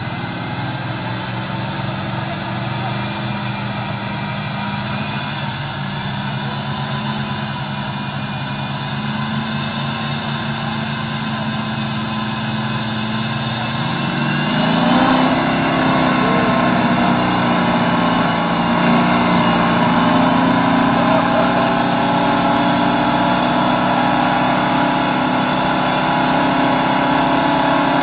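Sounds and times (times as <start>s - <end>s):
motor engine running: 0.0s - 28.0s.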